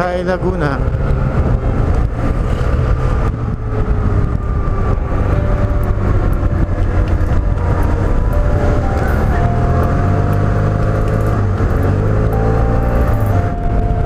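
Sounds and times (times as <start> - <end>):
scooter engine drone: 0.0 - 14.0
wind noise on microphone: 0.0 - 14.0.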